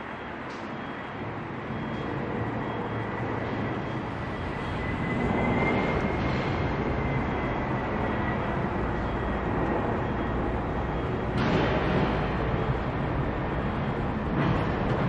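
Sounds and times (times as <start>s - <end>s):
high engine whine: 0.0s - 15.0s
jet engines roaring: 1.6s - 15.0s.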